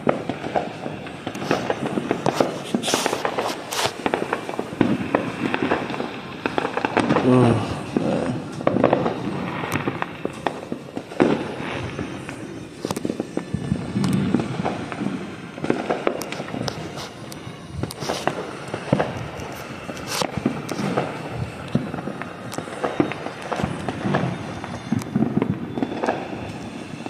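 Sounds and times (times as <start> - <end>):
distant fireworks popping and banging: 0.0 - 27.0.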